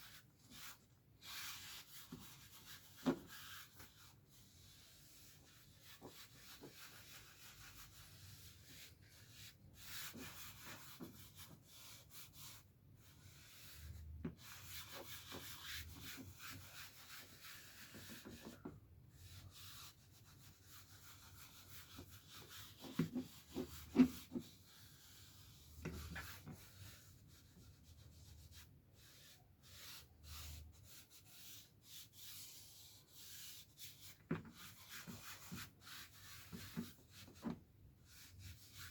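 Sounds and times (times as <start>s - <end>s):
cloth rubbing on plastic: 0.0s - 38.9s.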